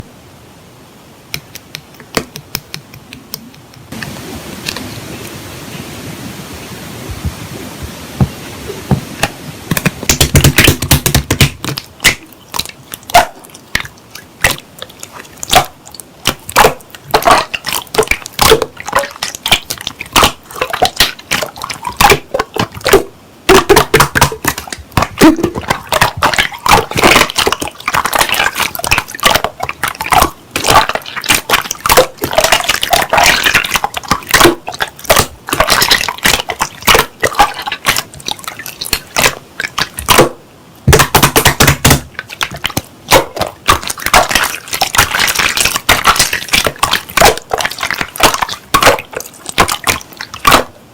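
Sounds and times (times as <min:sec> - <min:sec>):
slime squishing and popping: 0:09.7 - 0:50.7.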